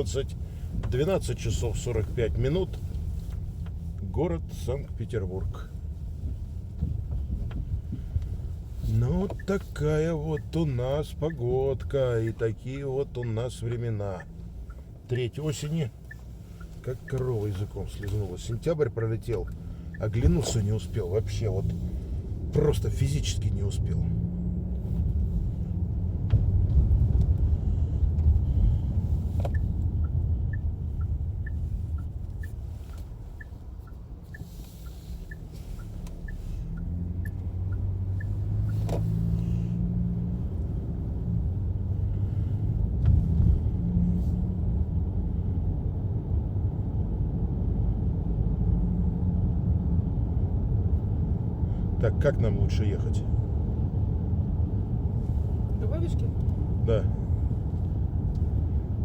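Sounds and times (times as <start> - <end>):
car rumble inside cabin: 0.0 - 59.0
turn signal ticking: 0.0 - 59.0.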